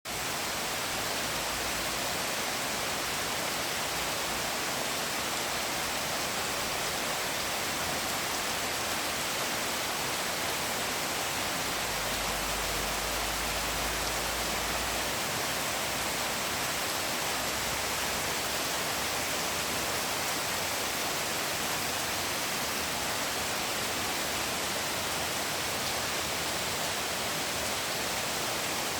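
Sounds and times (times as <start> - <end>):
steady rain falling: 0.1 - 28.9.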